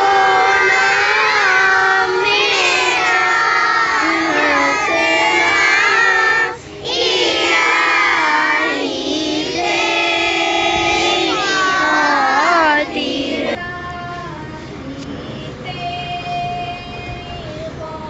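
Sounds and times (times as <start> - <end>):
girls singing together: 0.0 - 14.6.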